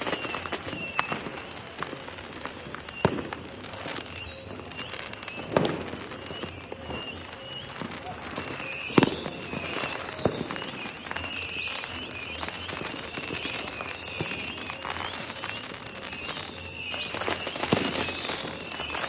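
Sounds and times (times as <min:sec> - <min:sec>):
fireworks bangs: 0:00.0 - 0:19.0
fireworks crackling: 0:00.0 - 0:19.0
fireworks whistling: 0:00.0 - 0:19.0.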